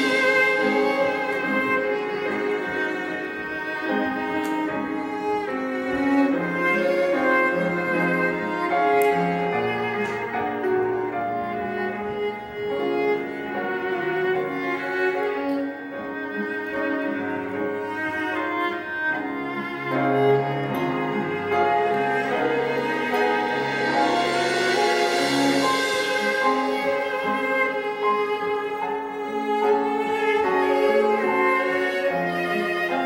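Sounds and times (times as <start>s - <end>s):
bowed strings with cello melody: 0.0s - 33.0s.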